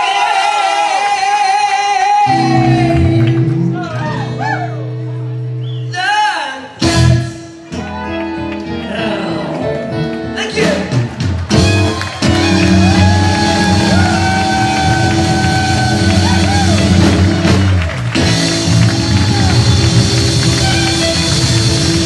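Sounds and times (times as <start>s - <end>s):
live rock band playing: 2.2s - 22.0s.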